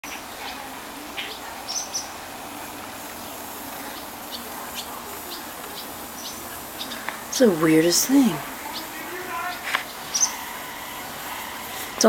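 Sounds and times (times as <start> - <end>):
birds chipping: 0.0 - 12.0.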